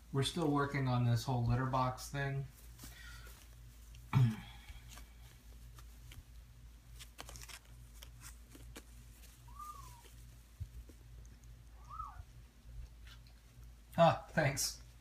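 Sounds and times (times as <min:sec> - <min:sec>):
low steady hum: 0:00.0 - 0:15.0
kittens scuffling: 0:00.3 - 0:13.9.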